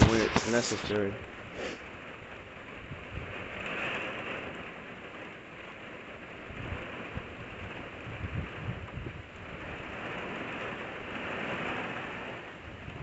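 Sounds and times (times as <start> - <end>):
wind buffeting microphone: 0.0 - 5.1, 6.2 - 13.0
storm wind and rain: 0.0 - 13.0.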